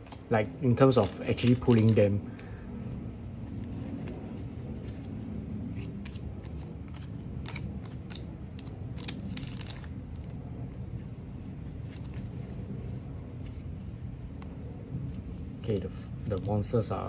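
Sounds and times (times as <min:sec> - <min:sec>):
cards flicking and rustling: 0:00.0 - 0:16.6
steady low rumble: 0:00.0 - 0:17.0.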